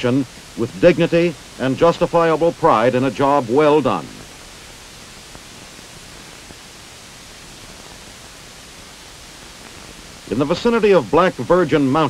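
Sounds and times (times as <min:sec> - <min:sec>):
old film soundtrack hiss: 0:00.0 - 0:12.0.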